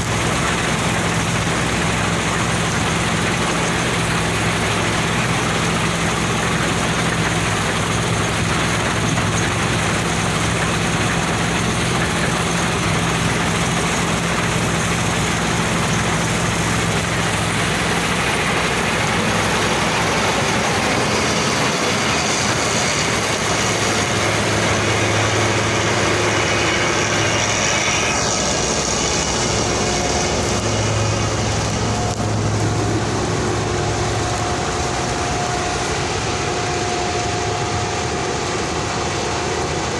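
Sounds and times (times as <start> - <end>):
combine harvester engine hum: 0.0 - 39.9
working machinery noise: 0.0 - 39.9.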